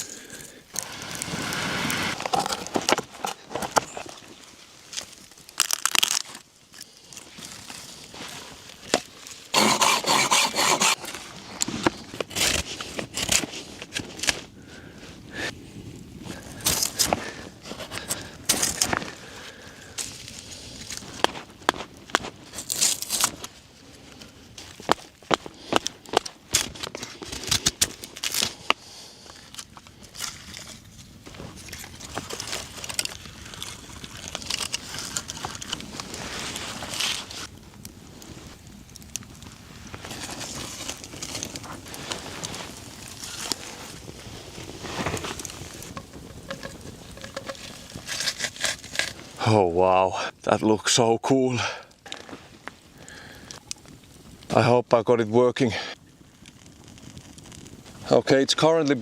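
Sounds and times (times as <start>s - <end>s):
rustling and scraping of objects: 0.0s - 49.7s, 51.0s - 54.5s
small fire crackling: 0.0s - 59.0s.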